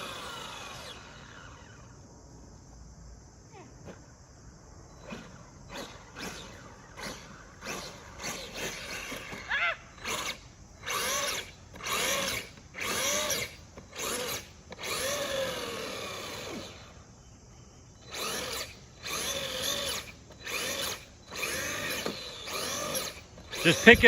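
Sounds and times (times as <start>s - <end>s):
electric motor revving: 0.0s - 2.0s, 5.0s - 17.0s, 18.0s - 24.0s.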